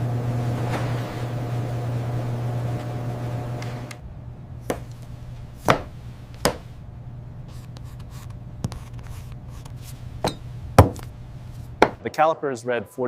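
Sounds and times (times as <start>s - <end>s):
steady low hum: 0.0s - 12.1s.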